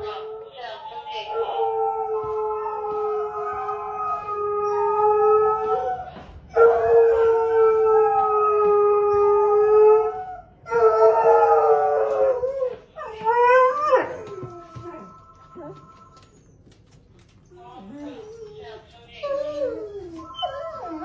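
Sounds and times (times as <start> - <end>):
dog howling: 0.0 - 16.6, 19.2 - 21.0.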